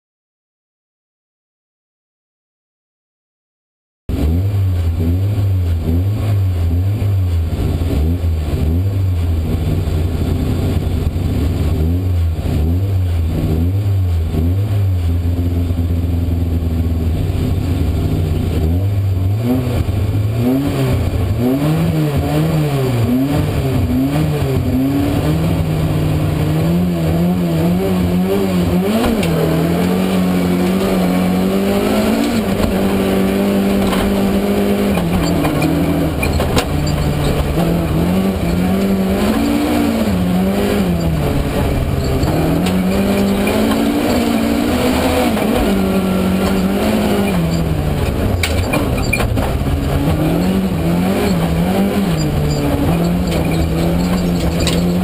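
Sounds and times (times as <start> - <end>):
rally car engine revving: 4.1 - 55.0.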